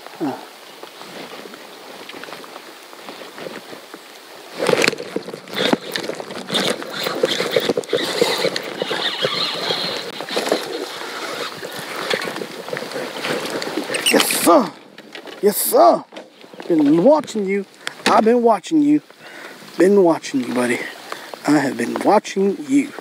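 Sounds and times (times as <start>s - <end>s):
water splashing around kayak: 0.0s - 21.9s.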